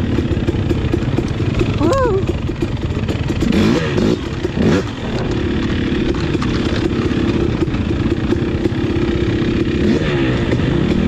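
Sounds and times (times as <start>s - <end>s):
dirt bike engine: 0.0s - 11.0s.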